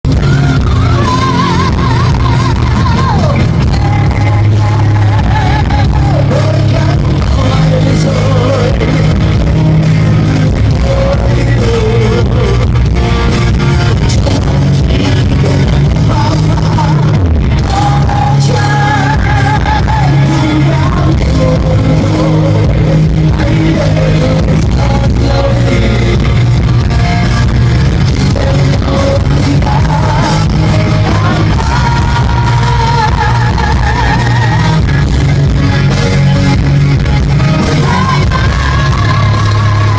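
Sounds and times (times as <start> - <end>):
rock music with singing: 0.0 - 39.9.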